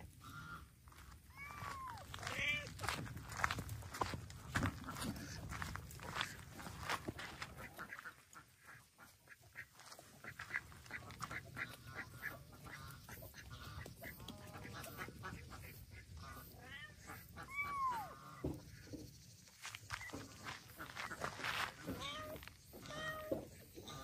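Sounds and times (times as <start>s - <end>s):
ducks quacking softly: 0.0s - 1.0s, 4.0s - 19.1s, 19.8s - 24.0s.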